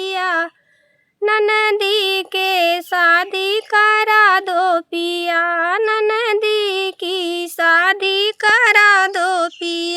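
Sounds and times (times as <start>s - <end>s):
woman singing unaccompanied: 0.0s - 0.6s, 1.2s - 9.9s.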